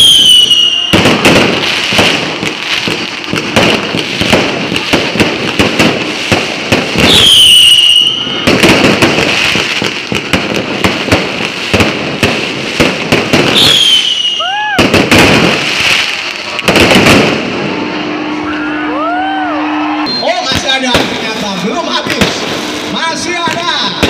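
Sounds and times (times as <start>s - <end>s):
firework whistle: 0.0s - 10.4s, 11.1s - 24.0s
firework bangs and crackling: 0.0s - 24.0s.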